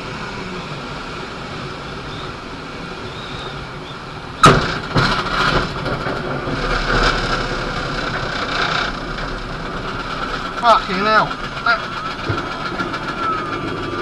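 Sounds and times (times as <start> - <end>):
glider airframe rattling rumble: 0.0 - 14.0.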